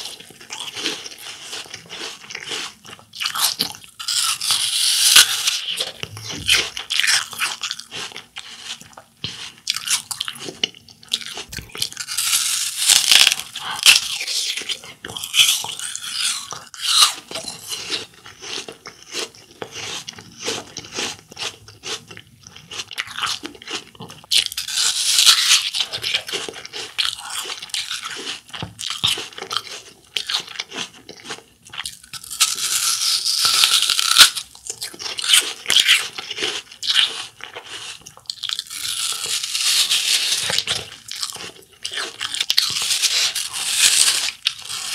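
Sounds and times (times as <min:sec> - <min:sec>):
crunchy apple bites: 0:00.0 - 0:44.9
crunchy chewing: 0:00.0 - 0:44.9.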